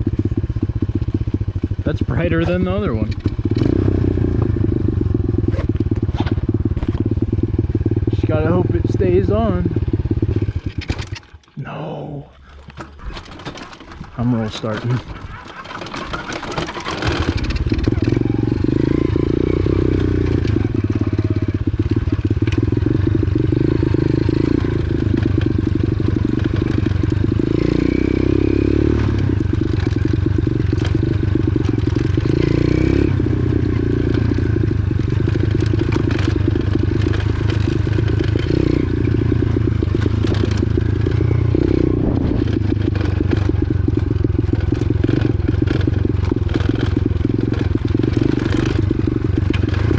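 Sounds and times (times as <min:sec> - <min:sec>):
pit bike engine running: 0:00.0 - 0:11.5, 0:12.4 - 0:49.9.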